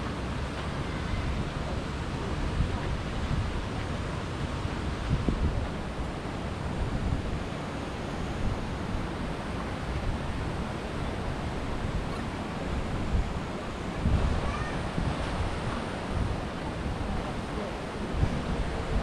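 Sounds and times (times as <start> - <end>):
wind gusting on microphone: 0.0 - 19.0.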